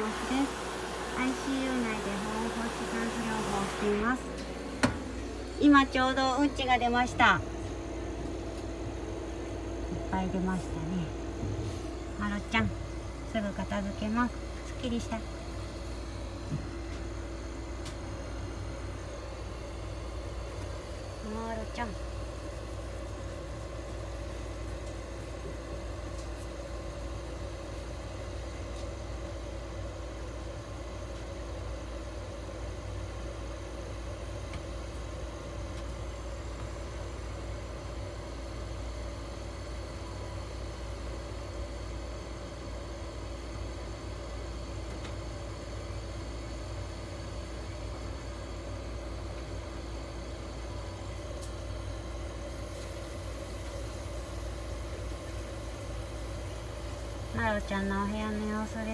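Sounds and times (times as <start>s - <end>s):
low mechanical hum: 0.0s - 58.9s.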